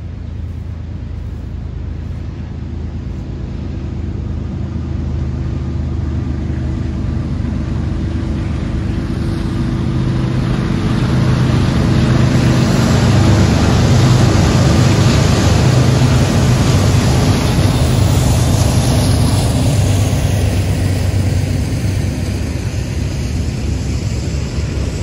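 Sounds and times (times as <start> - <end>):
locomotive engine drone: 0.0 - 25.0
train rushing noise: 0.0 - 25.0.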